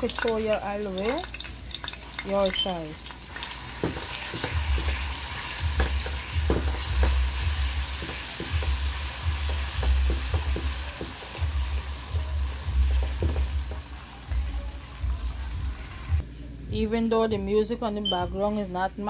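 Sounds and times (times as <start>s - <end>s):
paste sizzling in hot oil: 0.0s - 16.2s.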